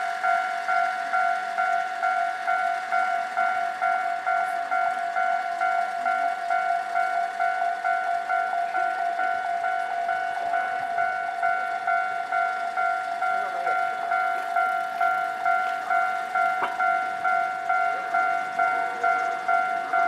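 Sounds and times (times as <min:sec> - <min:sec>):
level-crossing warning bell: 0:00.0 - 0:20.0.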